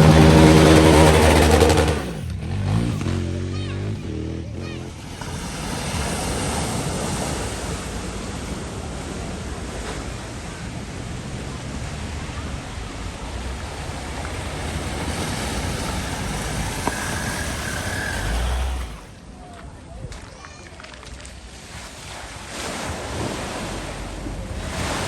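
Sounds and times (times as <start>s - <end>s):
floodwater rushing and splashing: 0.0s - 19.4s, 20.1s - 25.0s.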